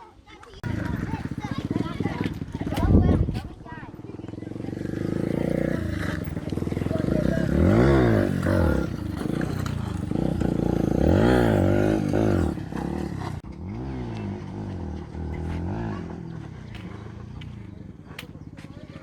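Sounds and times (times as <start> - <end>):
motorbike engines revving: 0.4 - 19.0.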